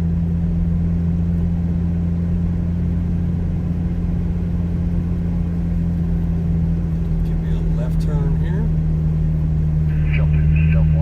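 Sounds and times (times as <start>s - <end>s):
car engine low drone: 0.0s - 11.0s.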